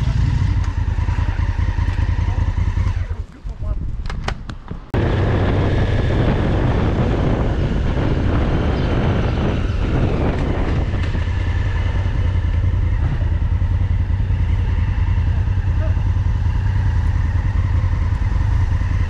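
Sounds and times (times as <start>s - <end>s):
motorcycle engine running: 0.0s - 3.9s, 4.8s - 19.0s
wind and road noise: 0.0s - 19.0s.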